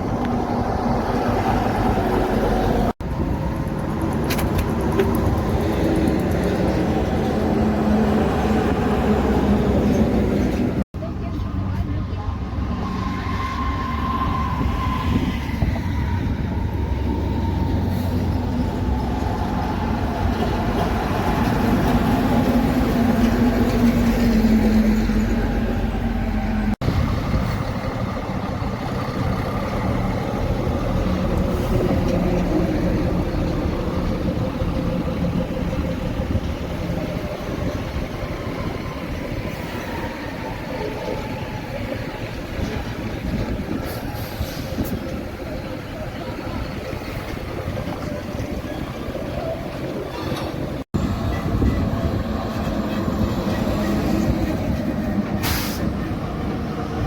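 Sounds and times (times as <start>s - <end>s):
heavy vehicle engine rumble: 0.0s - 57.0s
road noise: 0.0s - 57.0s.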